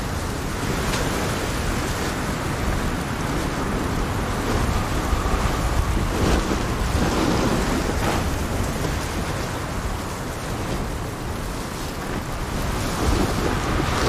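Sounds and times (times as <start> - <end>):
wind rushing with low rumble: 0.0 - 14.0.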